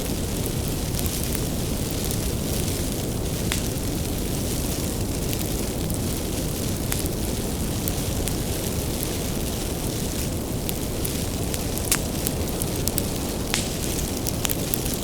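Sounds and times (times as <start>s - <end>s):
fire rumbling: 0.0s - 15.0s
firewood crackling: 0.0s - 15.0s.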